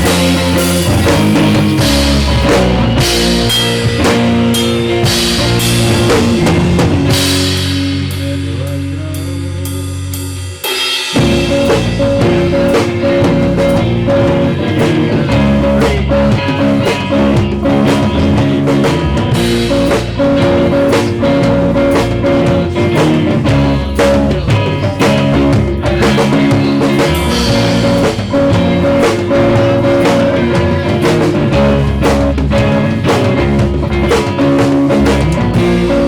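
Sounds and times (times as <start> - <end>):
guitar chord ringing: 0.0 - 10.0, 11.1 - 36.0
rock band playing: 0.0 - 36.0.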